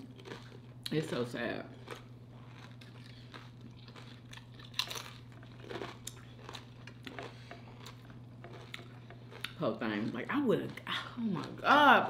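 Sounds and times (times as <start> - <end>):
person chewing food crunchily: 0.0 - 12.0
steady low hum: 0.0 - 12.0.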